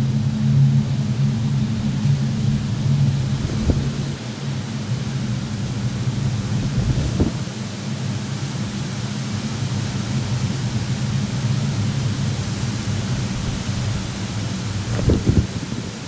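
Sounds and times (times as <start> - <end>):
low rumble: 0.0 - 7.4, 10.1 - 16.0
wind and rain rushing hiss: 0.0 - 16.0.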